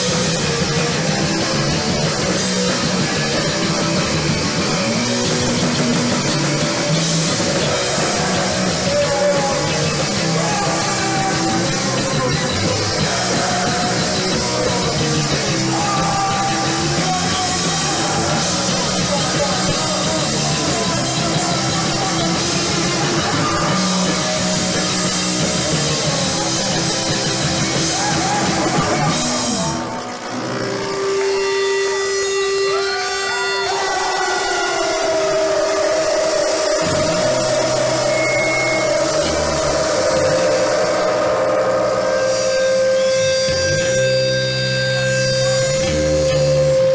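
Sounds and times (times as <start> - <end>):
punk rock band playing live: 0.0 - 46.9.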